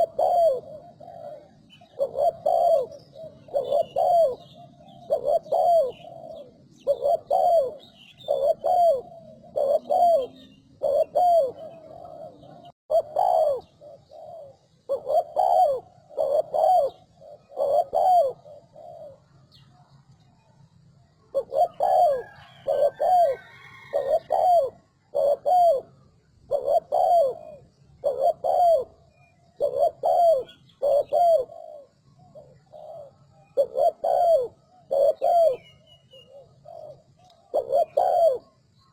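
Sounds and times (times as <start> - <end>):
dove cooing: 0.0 - 19.9, 21.0 - 38.9.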